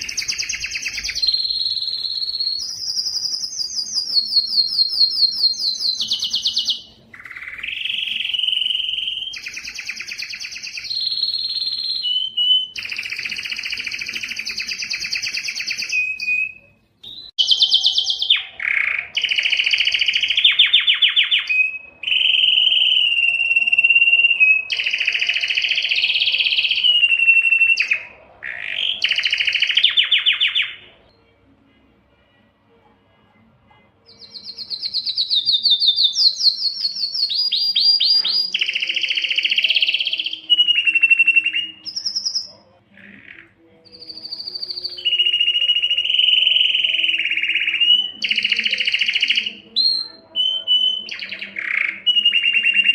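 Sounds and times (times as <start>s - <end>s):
canary singing: 0.0s - 32.5s, 33.3s - 52.9s.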